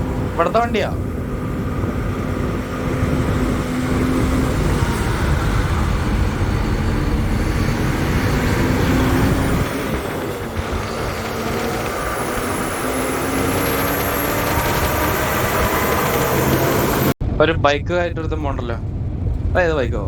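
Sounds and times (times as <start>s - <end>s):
road and wind rumble: 0.0s - 20.0s
truck engine hum: 0.0s - 20.0s.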